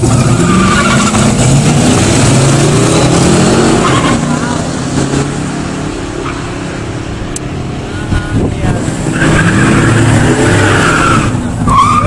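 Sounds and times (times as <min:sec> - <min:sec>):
car engines accelerating: 0:00.0 - 0:12.0.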